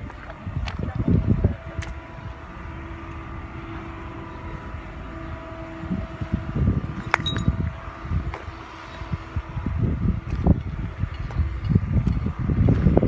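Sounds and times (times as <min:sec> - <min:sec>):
distant machine hum: 0:00.0 - 0:13.0
wind rumble on microphone: 0:00.0 - 0:13.0.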